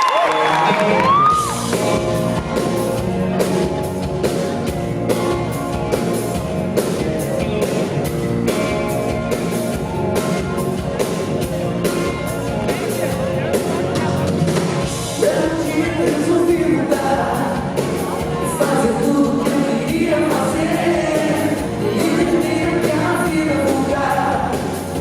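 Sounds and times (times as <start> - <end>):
guitar: 0.0 - 25.0
live band playing instrumental: 0.6 - 25.0
drums steady beat: 1.1 - 25.0.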